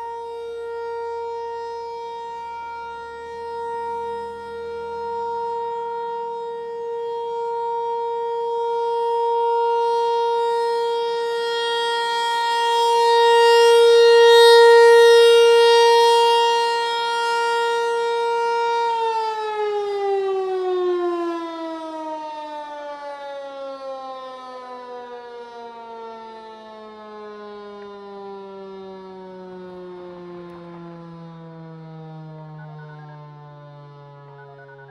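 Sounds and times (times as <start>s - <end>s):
rotating mechanical siren: 0.0s - 34.9s.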